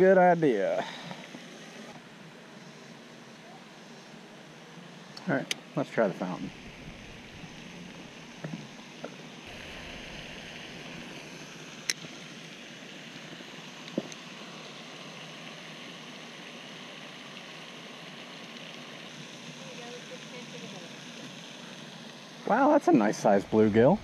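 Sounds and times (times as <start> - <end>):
fountain spray hissing: 0.0 - 24.0.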